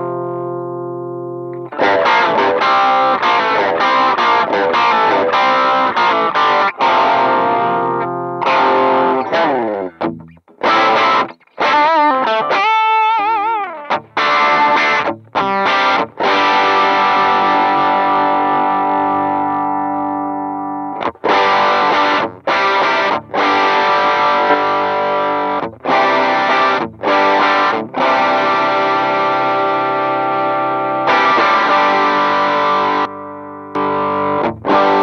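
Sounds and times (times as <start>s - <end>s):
distorted electric guitar: 0.0s - 35.0s.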